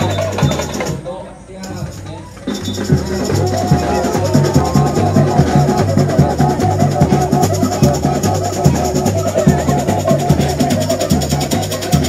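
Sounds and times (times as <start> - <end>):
bass drums beating: 0.0 - 12.0
drum and percussion parts: 0.0 - 12.0.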